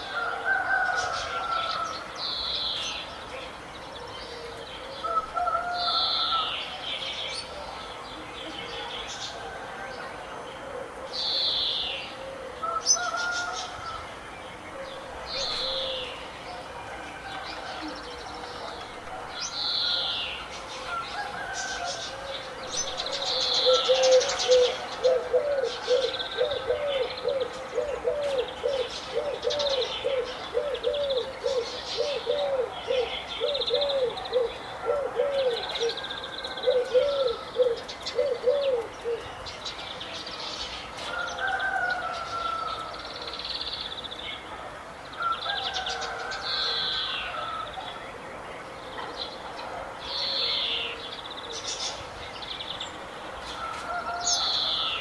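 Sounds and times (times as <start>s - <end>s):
birds chirping and trilling: 0.0s - 44.5s, 45.1s - 55.0s.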